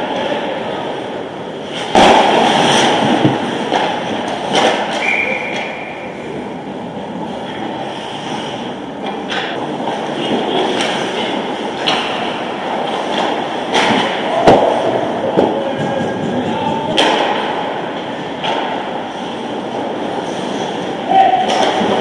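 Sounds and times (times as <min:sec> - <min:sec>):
hockey sticks and puck clacking: 0:01.6 - 0:06.2, 0:07.3 - 0:22.0
skates scraping on ice: 0:01.6 - 0:06.3, 0:07.2 - 0:22.0.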